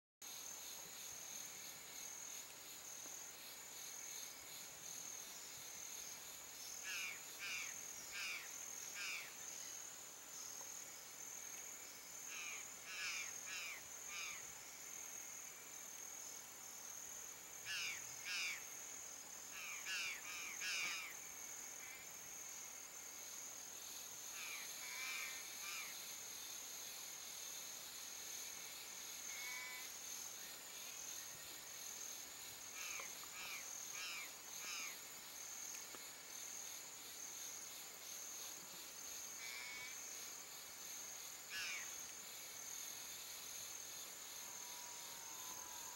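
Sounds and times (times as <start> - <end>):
high-pitched insect trill: 0.2 - 45.9.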